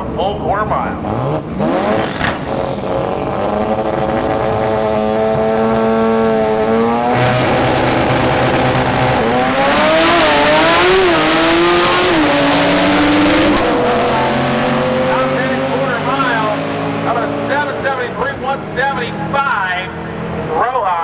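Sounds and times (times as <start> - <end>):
drag car engines revving: 0.0 - 21.0.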